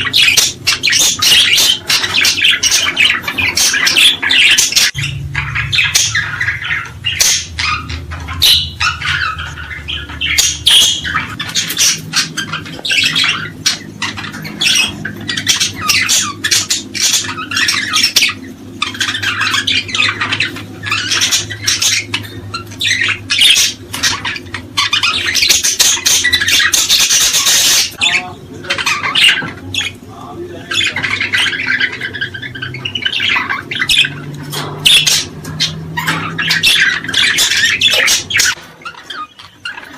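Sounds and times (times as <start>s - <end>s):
cage birds squawking: 0.0s - 39.9s.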